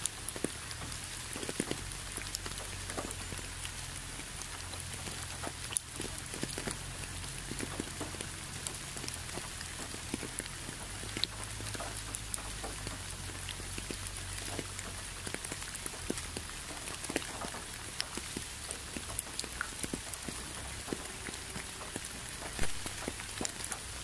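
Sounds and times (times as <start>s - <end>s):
raindrops ticking: 0.0s - 24.0s
steady rain falling: 0.0s - 24.0s.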